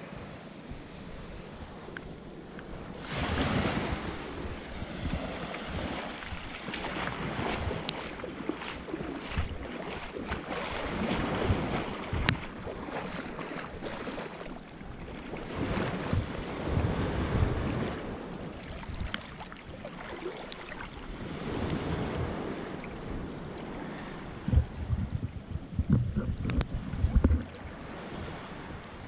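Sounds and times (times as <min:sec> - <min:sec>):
ocean surf washing on shore: 0:00.0 - 0:29.0
wind buffeting microphone: 0:00.7 - 0:20.2, 0:20.8 - 0:29.0.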